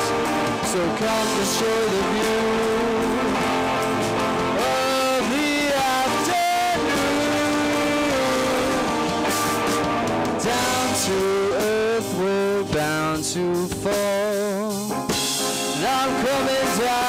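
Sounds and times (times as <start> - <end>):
drums and crashing cymbals: 0.0 - 17.0
electric guitars: 0.0 - 17.0.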